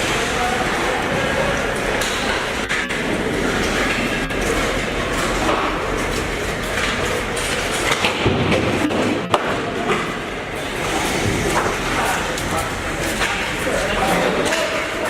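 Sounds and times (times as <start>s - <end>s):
echoing arena noise: 0.0s - 15.0s.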